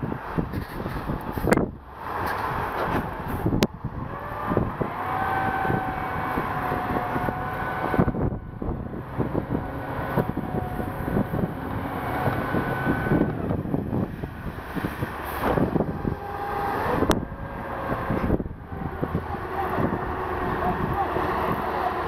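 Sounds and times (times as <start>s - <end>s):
snow vehicle engine under load: 0.0s - 22.0s
steady whine: 1.4s - 22.0s.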